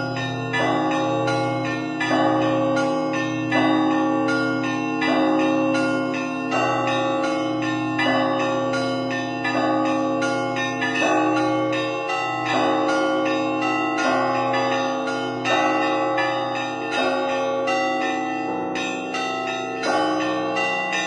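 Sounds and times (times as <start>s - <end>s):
low bells humming: 0.0s - 21.0s
small high bells chiming rapidly: 0.0s - 21.0s.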